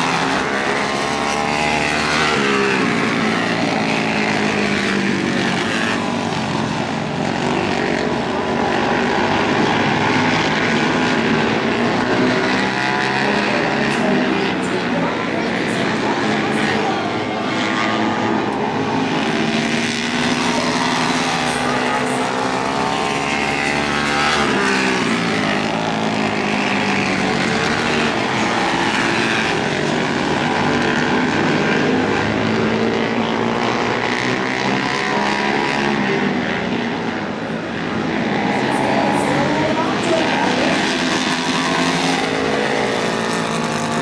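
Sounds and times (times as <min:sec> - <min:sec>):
racing motorcycle engines: 0:00.0 - 0:44.0.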